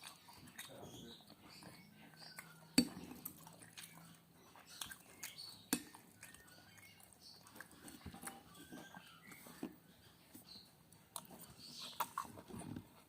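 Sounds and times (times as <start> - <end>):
soft chewing and mouth noises: 0.0 - 13.0.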